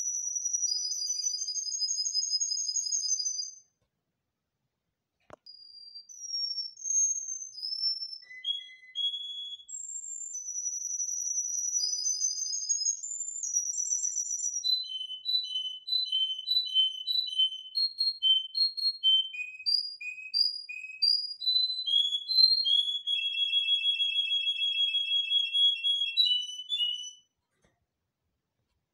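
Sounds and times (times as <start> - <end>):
canary singing: 0.0 - 3.6, 5.5 - 27.3.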